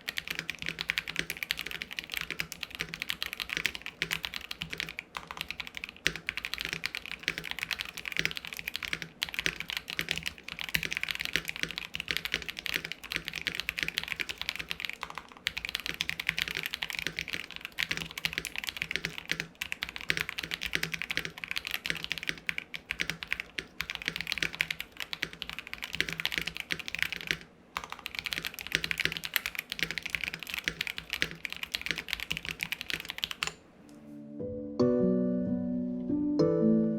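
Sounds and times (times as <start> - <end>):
mechanical keyboard typing: 0.0 - 33.6.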